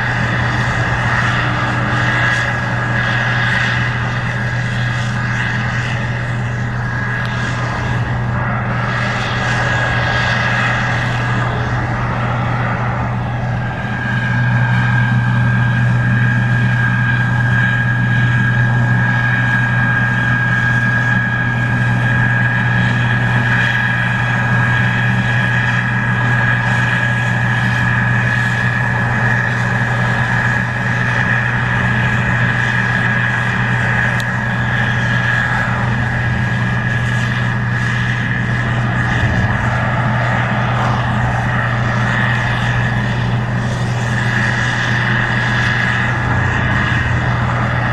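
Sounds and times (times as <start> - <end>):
combine engine drone: 0.0 - 47.9
high-pitched whine: 0.0 - 47.9.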